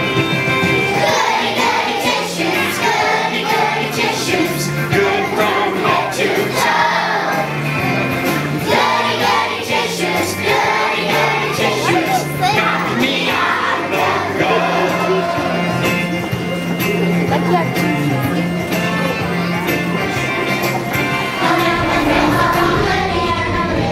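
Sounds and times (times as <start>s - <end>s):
children's choir singing: 0.6s - 16.8s, 18.8s - 23.9s.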